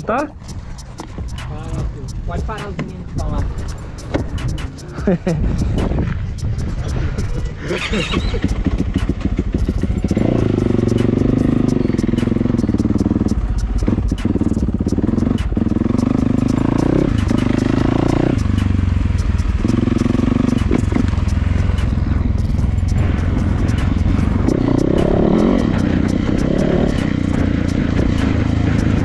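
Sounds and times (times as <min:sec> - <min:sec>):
motocross bike engine accelerating: 0:05.0 - 0:29.0.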